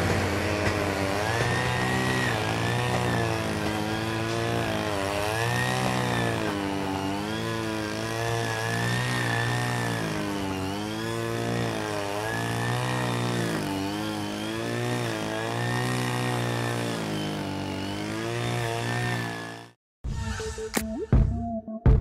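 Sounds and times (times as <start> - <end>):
engine running: 0.0 - 19.2.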